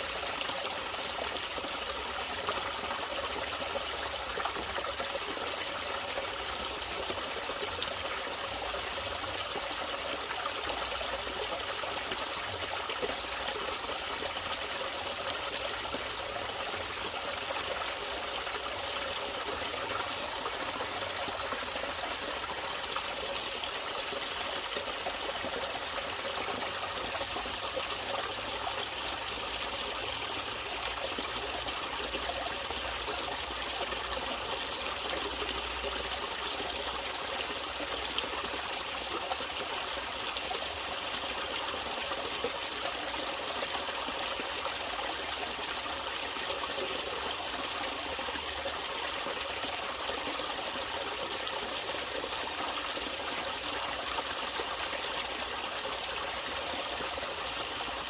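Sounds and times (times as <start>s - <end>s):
stream water trickling: 0.0s - 58.0s.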